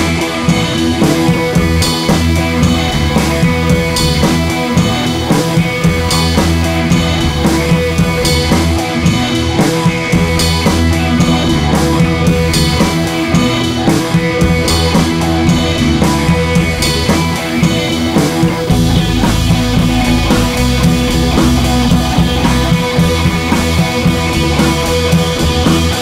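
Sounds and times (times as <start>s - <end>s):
rock music with drums and guitar: 0.0s - 26.0s.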